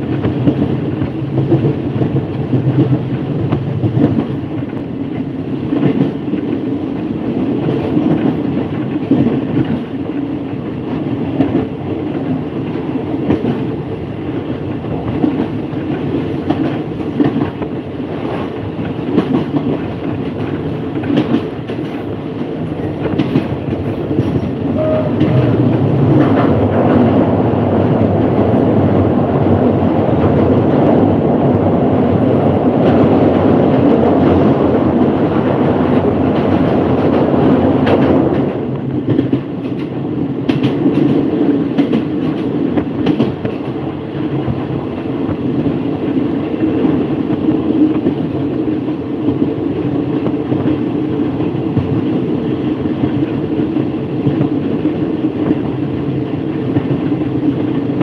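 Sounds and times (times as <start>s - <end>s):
passenger train rumbling: 0.0s - 58.0s.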